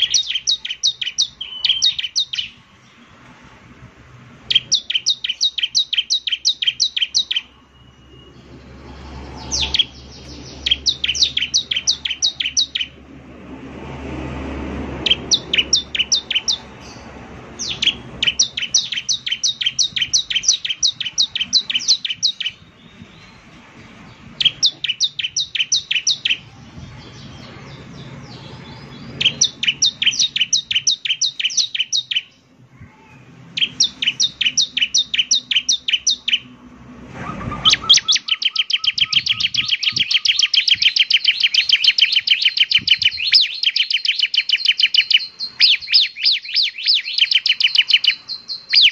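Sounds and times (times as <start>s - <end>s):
bird singing high chips and trill: 0.0s - 3.0s, 4.4s - 13.0s, 14.9s - 32.5s, 33.1s - 36.6s, 37.2s - 48.9s.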